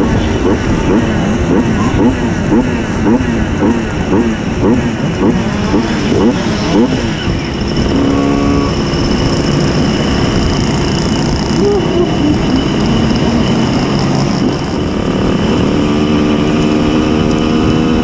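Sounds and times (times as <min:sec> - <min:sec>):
moped engine revving: 0:00.0 - 0:18.0.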